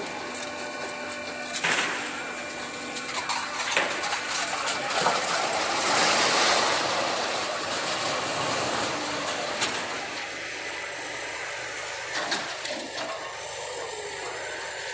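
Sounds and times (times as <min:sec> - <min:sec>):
baling machine running: 0:00.0 - 0:14.9.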